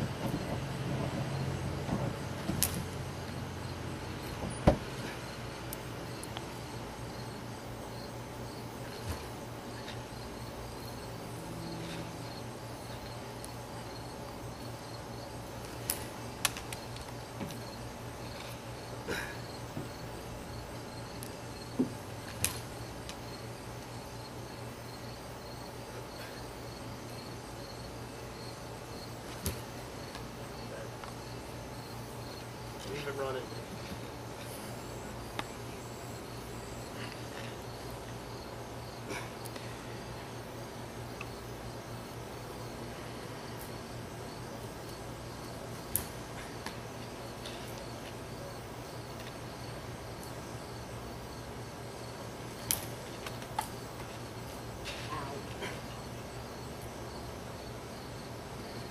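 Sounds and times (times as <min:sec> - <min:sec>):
insects chirping: 0:00.0 - 0:58.9
low hum and hiss: 0:00.0 - 0:58.9.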